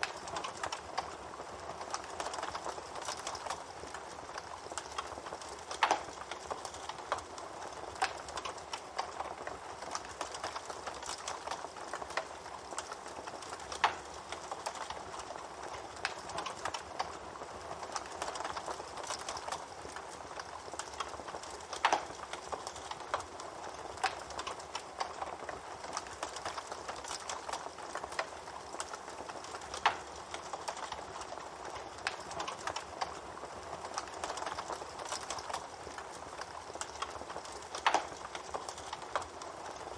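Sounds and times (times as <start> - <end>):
bonfire crackling: 0.0 - 39.9
fire snapping loudly: 0.0 - 39.9.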